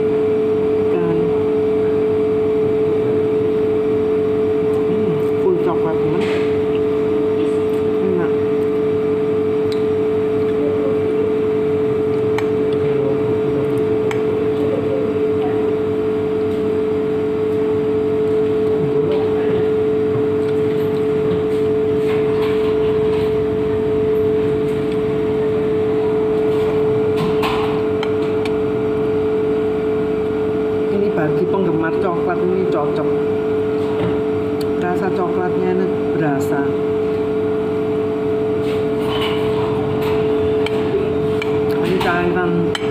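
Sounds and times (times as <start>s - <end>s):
loud machine hum: 0.0s - 42.9s.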